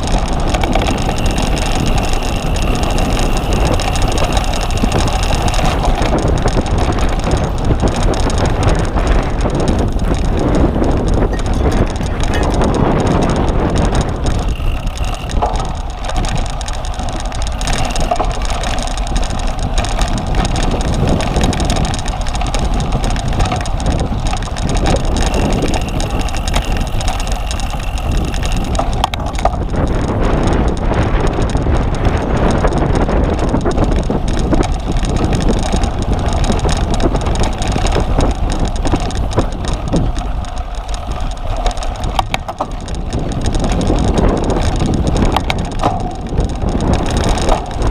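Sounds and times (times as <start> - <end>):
bike rattling: 0.0 - 47.9
bike tyre rumble: 0.0 - 47.9
wind buffeting microphone: 0.0 - 47.9.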